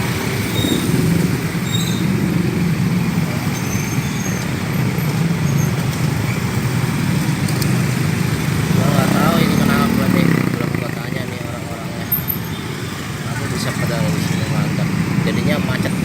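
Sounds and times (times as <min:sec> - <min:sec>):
car and motorbike engines humming: 0:00.0 - 0:16.0.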